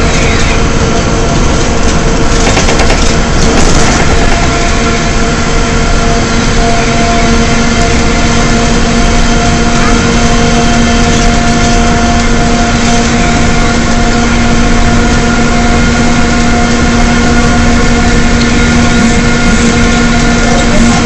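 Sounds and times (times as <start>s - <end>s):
bus drivetrain howl: 0.0s - 21.0s
engine and road noise: 0.0s - 21.0s.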